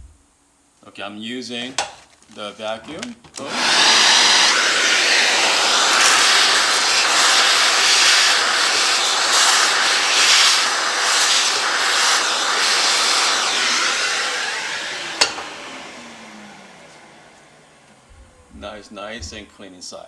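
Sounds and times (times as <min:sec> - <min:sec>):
vacuum cleaner sucking: 0:01.6 - 0:19.4.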